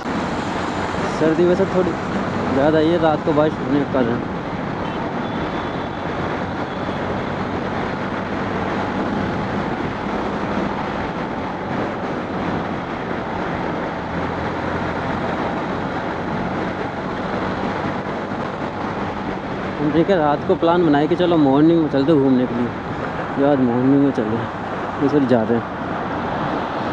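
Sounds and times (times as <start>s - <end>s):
wind and road noise: 0.0s - 26.9s.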